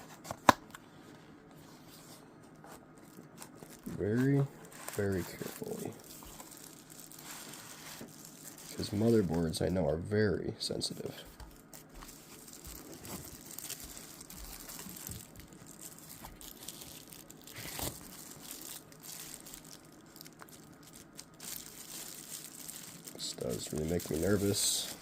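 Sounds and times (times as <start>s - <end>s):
plastic packaging crinkling: 2.8s - 9.8s, 11.5s - 25.0s.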